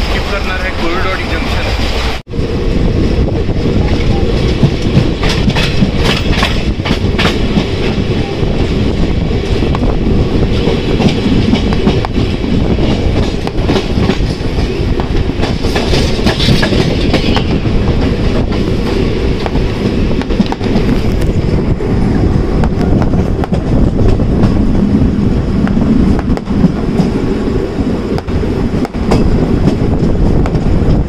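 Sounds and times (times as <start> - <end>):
train wheels rumbling on rail: 0.0 - 31.0
rail joint clacks: 3.5 - 21.5, 22.6 - 27.3, 28.0 - 31.0.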